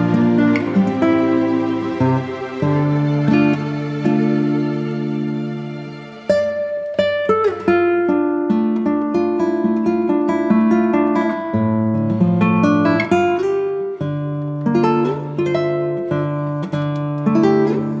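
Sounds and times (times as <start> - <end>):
plucked string instrument music: 0.0 - 18.0.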